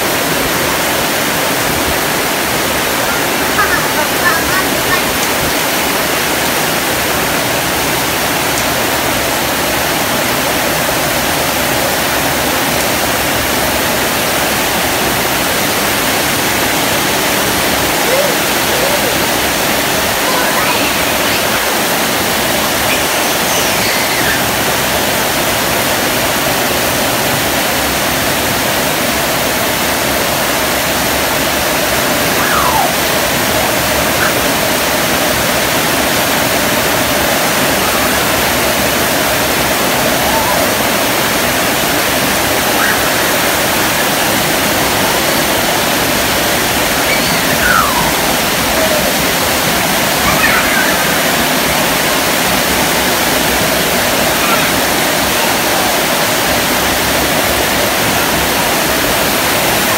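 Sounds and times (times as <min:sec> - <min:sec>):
heavy rain on metal roofs: 0:00.0 - 0:59.9.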